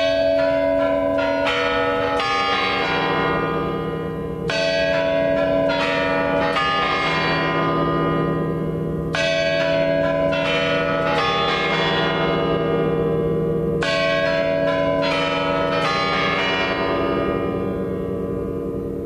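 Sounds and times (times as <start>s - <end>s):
clock tower chime melody: 0.0s - 19.0s.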